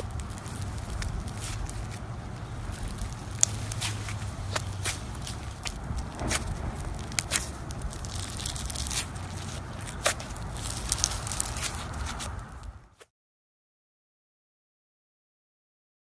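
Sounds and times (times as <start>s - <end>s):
foam bead slime crackling: 0.0s - 13.0s
low steady hum: 0.0s - 13.0s.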